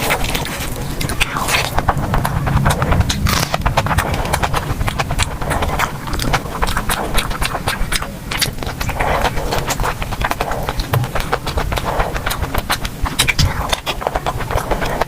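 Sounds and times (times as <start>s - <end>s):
close chewing and mouth sounds: 0.0s - 15.0s.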